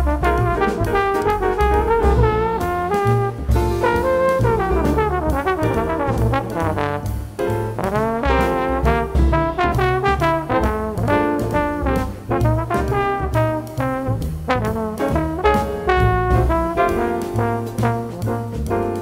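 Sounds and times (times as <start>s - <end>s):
drum kit with cymbals: 0.0s - 19.0s
jazz trombone: 0.0s - 19.0s
piano: 0.0s - 19.0s
walking upright bass: 0.0s - 19.0s.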